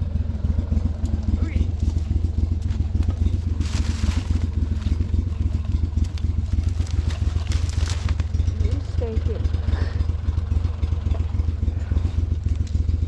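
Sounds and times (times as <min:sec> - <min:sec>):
boat motor idling: 0:00.0 - 0:13.0.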